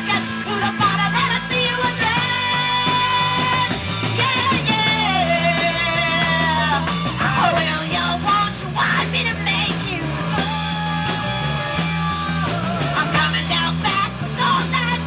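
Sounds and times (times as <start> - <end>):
drums: 0.0 - 15.0
electric guitar: 0.0 - 15.0
woman singing: 0.0 - 15.0.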